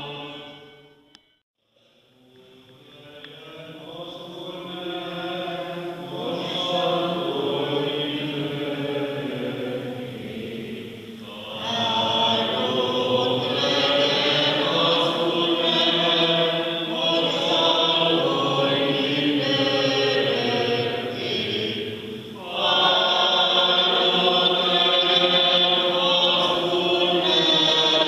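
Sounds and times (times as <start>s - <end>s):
voices singing liturgical chant: 0.0s - 0.8s, 2.5s - 28.0s.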